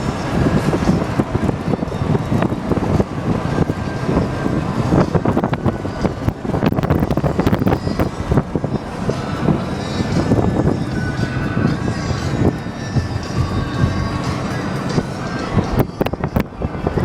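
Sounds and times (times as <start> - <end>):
vehicle noise: 0.0 - 17.0
wind buffeting microphone: 0.0 - 17.0.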